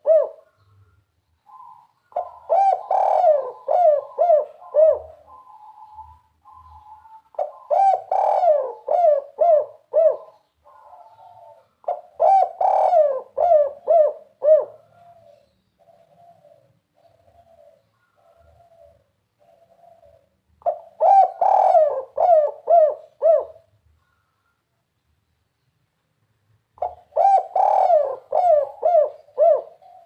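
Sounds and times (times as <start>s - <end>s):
dove cooing: 0.0s - 24.5s, 26.8s - 30.0s.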